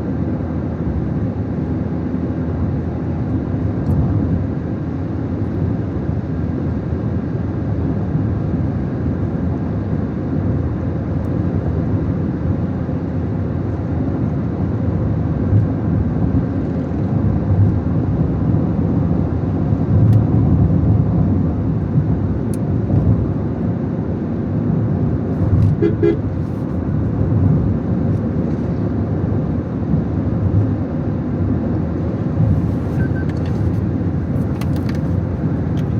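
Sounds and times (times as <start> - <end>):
car engine and road rumble: 0.0 - 35.9.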